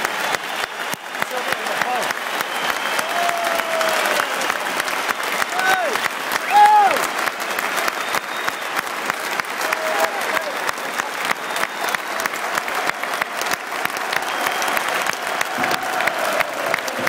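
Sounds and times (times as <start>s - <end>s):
stadium crowd applauding: 0.0s - 17.0s.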